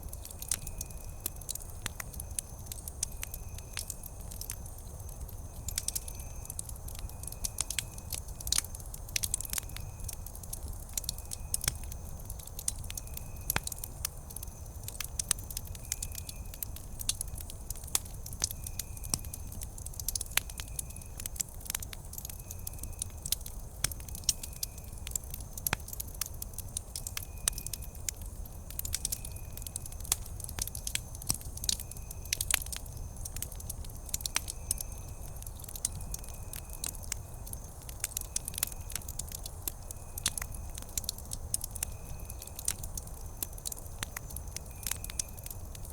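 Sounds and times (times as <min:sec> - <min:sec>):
campfire crackling and popping: 0:00.0 - 0:45.9
low rumble of flames: 0:00.0 - 0:45.9.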